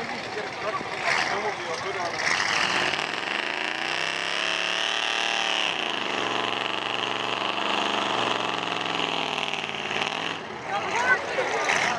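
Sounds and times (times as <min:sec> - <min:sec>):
truck engine revving hard: 0:01.0 - 0:11.9.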